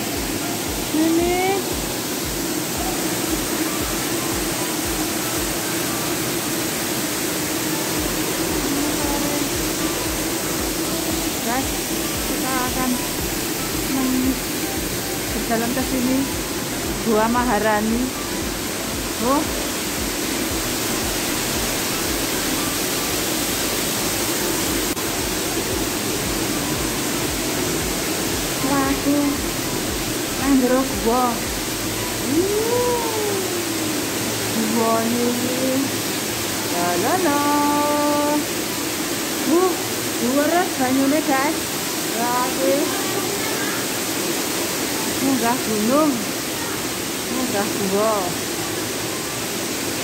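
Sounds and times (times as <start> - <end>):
waterfall rushing into pool: 0.0 - 50.0.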